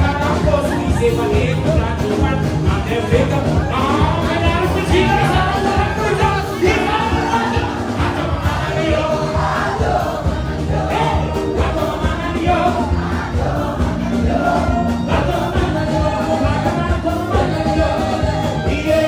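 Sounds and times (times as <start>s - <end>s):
drums: 0.0s - 19.0s
keyboard: 0.0s - 19.0s
live band playing dance music: 0.0s - 19.0s
man singing lead: 0.0s - 19.0s
voices singing together: 0.0s - 19.0s.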